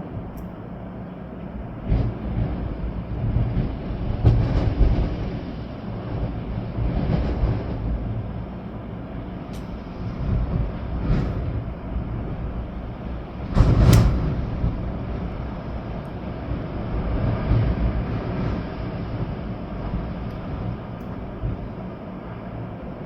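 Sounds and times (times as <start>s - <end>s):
rain: 0.0s - 23.0s
storm wind gusting: 0.0s - 23.0s.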